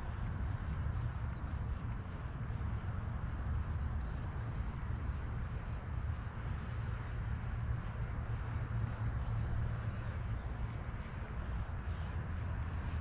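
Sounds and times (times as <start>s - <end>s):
faint high whine: 0.0s - 13.0s
low outdoor rumble: 0.0s - 13.0s.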